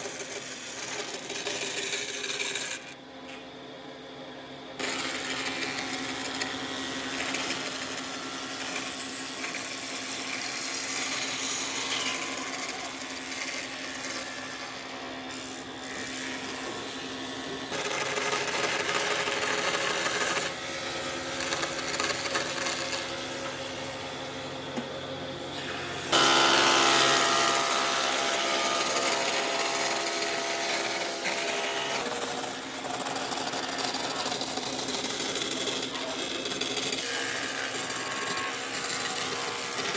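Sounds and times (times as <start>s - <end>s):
power tool motor hum: 4.8s - 24.4s, 25.5s - 39.9s.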